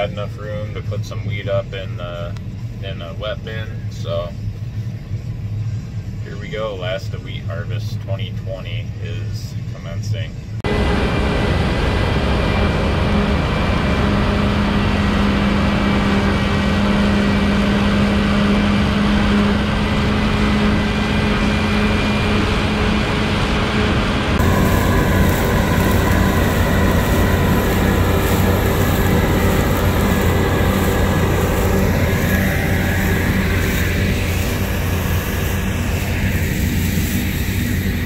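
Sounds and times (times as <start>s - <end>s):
combine harvester engine drone: 0.0s - 38.0s.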